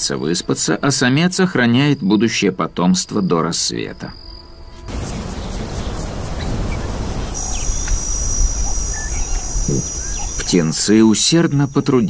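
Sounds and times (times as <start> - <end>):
insect trill: 0.1 - 12.0.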